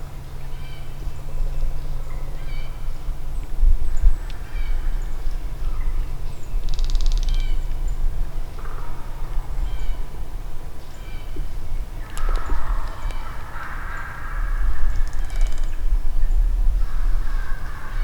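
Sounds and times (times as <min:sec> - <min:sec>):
birds calling: 0:02.1 - 0:18.0.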